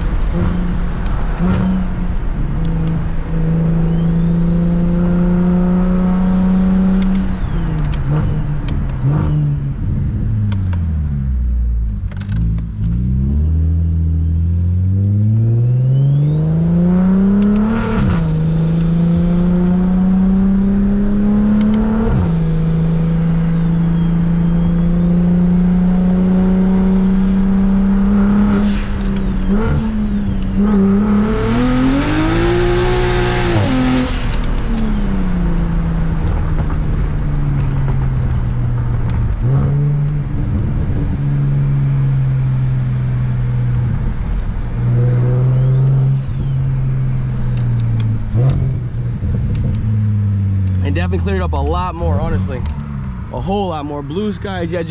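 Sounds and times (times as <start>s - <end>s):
car engine accelerating: 0.0s - 54.9s
engine revving with rushing noise: 0.0s - 54.9s.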